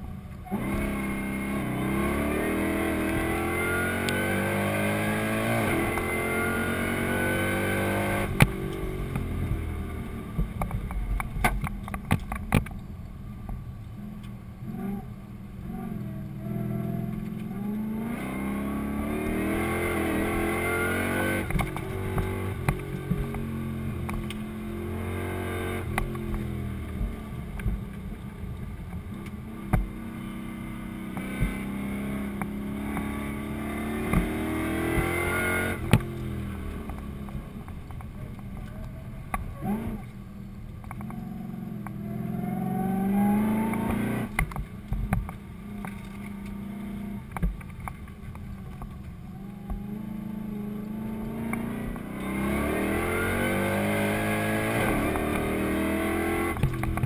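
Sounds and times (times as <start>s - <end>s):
car engine revving: 0.0s - 12.6s, 14.6s - 57.0s.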